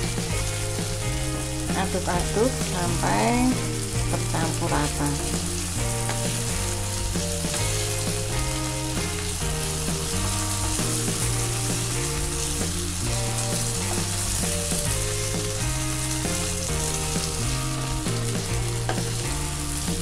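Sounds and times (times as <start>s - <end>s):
background music with bass line: 0.0s - 20.0s
food sizzling in a frying pan: 0.0s - 20.0s
spatula stirring: 3.4s - 20.0s.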